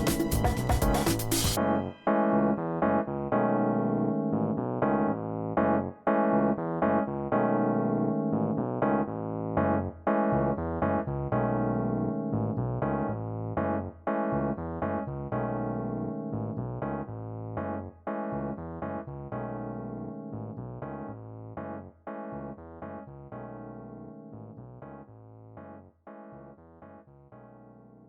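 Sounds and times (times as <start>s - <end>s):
electric piano melody: 0.0s - 28.0s.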